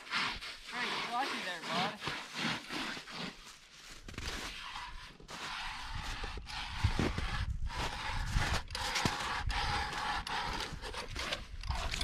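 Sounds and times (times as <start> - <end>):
footsteps crunching on slushy ice: 0.0 - 12.0.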